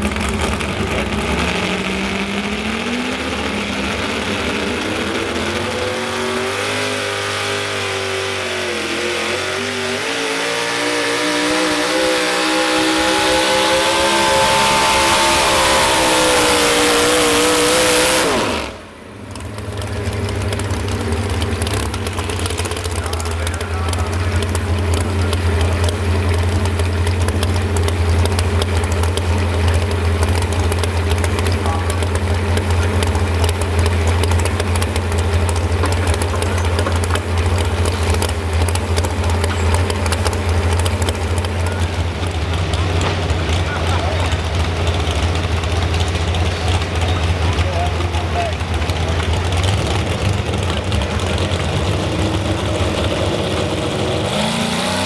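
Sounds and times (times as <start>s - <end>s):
truck engine revving and idling: 0.0s - 55.0s.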